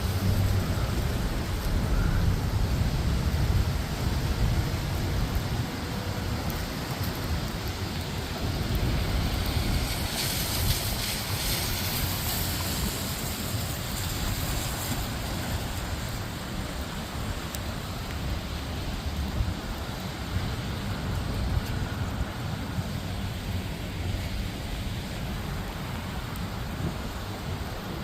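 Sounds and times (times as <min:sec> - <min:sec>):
steady rain: 0:00.0 - 0:28.0
wind rumbling on microphone: 0:00.0 - 0:28.0.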